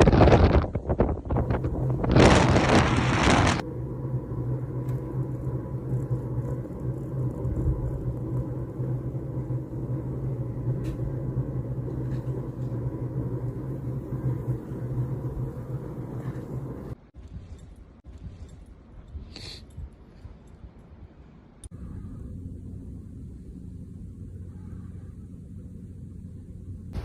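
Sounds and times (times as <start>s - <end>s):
motor vehicle rumbling: 0.0s - 17.2s, 21.7s - 27.0s.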